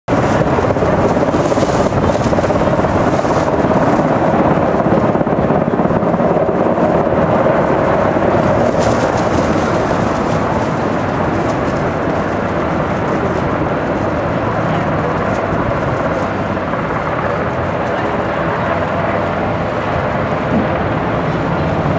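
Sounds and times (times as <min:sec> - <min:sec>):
helicopter rotor chop: 0:00.1 - 0:21.9.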